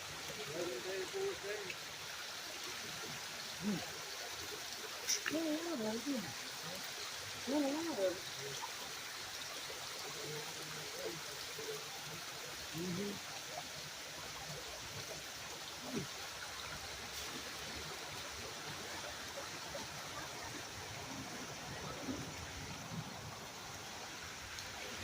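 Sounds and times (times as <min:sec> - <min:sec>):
stream water over rocks: 0:00.0 - 0:25.0.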